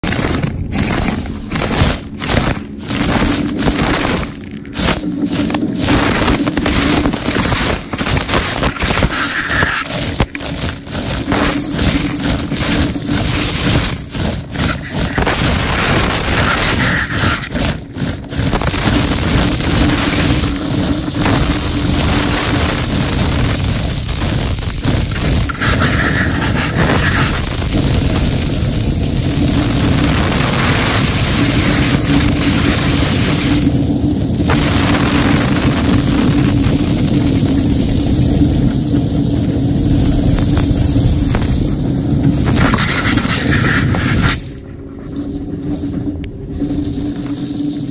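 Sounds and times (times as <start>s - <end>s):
compressed air rushing through hose: 0.0s - 47.9s
steady machine hum: 0.0s - 47.9s.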